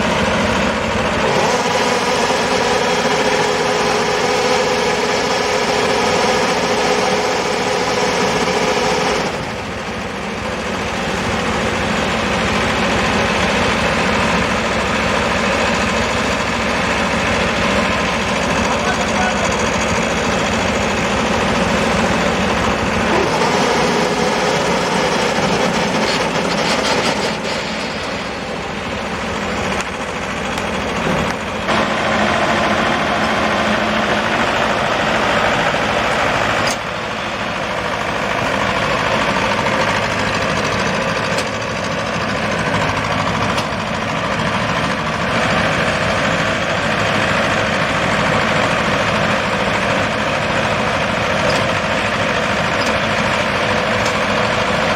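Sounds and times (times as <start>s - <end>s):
combine harvester engine drone: 0.0s - 54.9s
dense mechanical noise: 0.0s - 54.9s.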